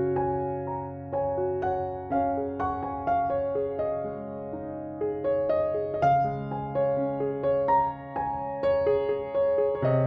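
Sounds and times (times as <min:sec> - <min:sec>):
soft slow piano melody: 0:00.0 - 0:10.0.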